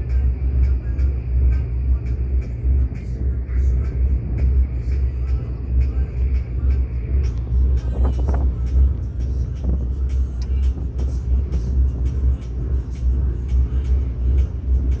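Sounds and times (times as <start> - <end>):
boat engines rumbling: 0.0 - 15.0.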